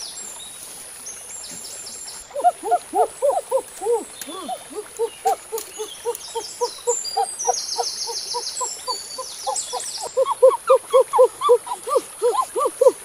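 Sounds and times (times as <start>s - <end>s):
low hooting calls: 2.3s - 13.0s.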